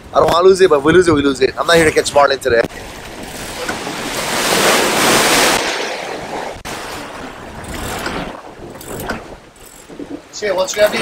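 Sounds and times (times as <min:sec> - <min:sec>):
wind and spray rushing: 0:00.0 - 0:11.0.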